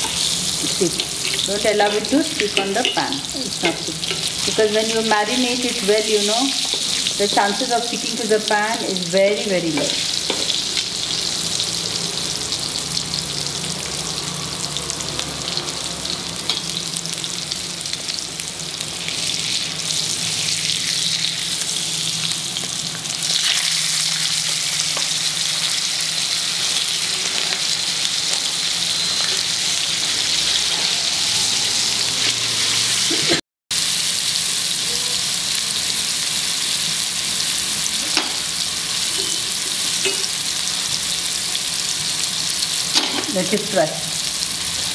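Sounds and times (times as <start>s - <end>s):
fish sizzling in oil: 0.0s - 44.9s.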